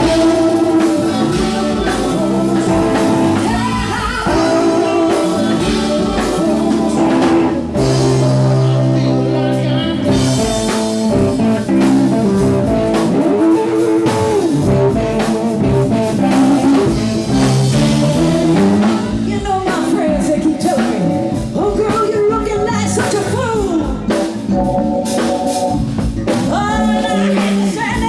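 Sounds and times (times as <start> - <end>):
blues-rock band playing: 0.0 - 28.0.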